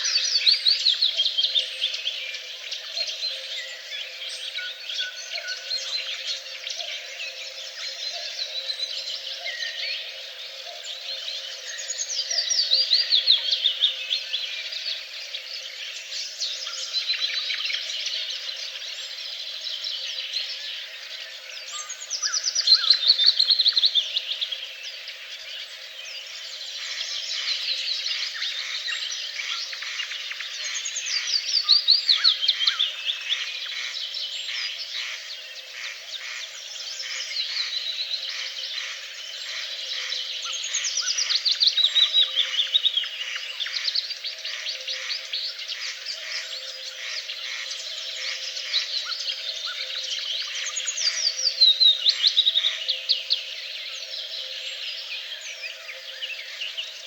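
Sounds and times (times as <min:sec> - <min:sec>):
chorus of birds chirping: 0:00.0 - 0:57.0.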